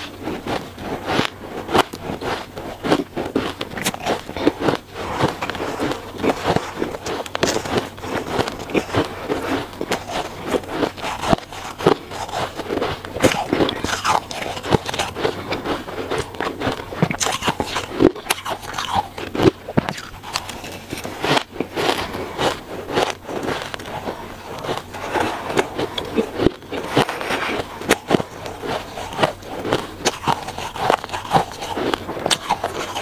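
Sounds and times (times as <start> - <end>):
chewing crunchy ice: 0.0 - 33.0
metal spoon scraping ice: 3.8 - 33.0.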